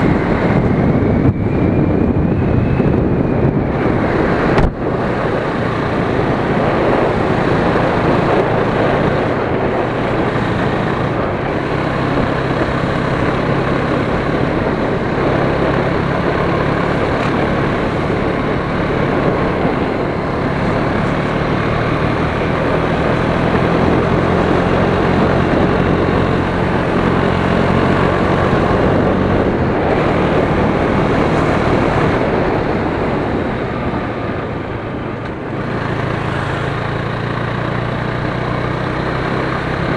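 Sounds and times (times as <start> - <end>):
motorcycle engine and exhaust: 0.0 - 39.9
wind noise on microphone: 0.0 - 39.9.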